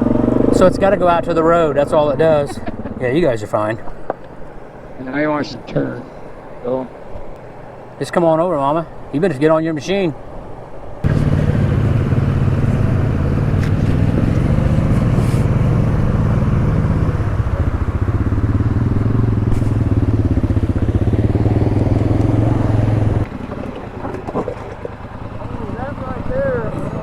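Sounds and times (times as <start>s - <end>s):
atv engine under throttle: 0.0s - 8.0s, 11.0s - 27.0s.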